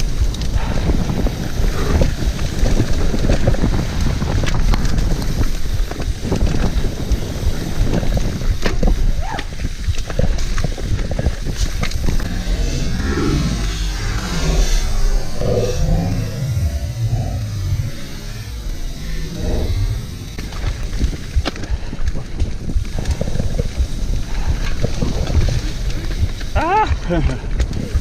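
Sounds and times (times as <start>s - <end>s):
bike tyre rumble: 0.0s - 28.0s
wind buffeting microphone: 0.0s - 28.0s.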